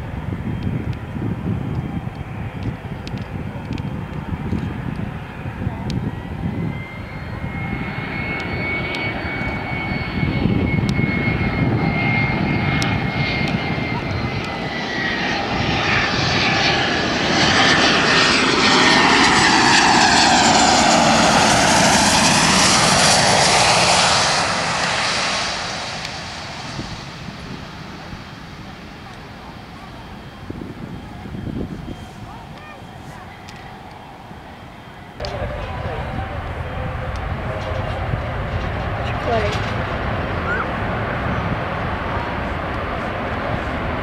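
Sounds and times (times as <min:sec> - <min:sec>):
jet engine whine and rush: 0:00.0 - 0:44.0.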